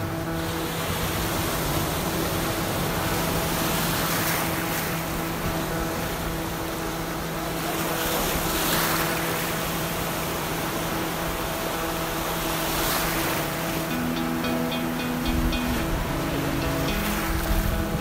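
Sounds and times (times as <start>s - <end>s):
sea waves washing in: 0.0s - 18.0s
steady low drone: 0.0s - 18.0s.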